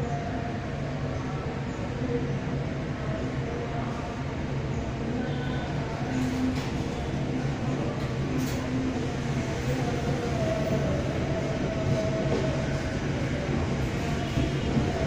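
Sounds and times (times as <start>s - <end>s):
train engine hum and rail rumble: 0.0s - 15.0s.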